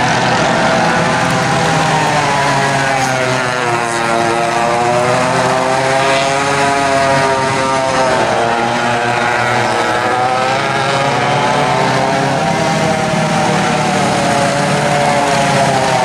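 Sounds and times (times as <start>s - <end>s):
go-kart engines buzzing: 0.0s - 16.0s.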